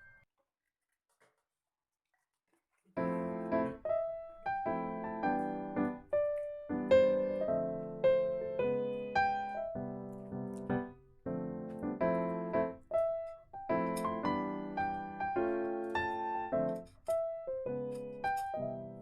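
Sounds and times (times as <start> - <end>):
soft piano music: 3.0 - 19.0.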